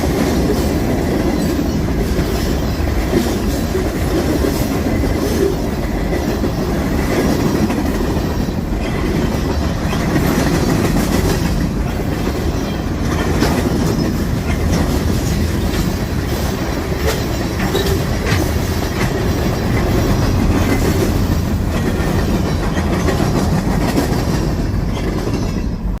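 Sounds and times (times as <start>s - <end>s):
freight train rolling past: 0.0s - 26.0s
wheels clickety-clack on rail joints: 0.0s - 26.0s.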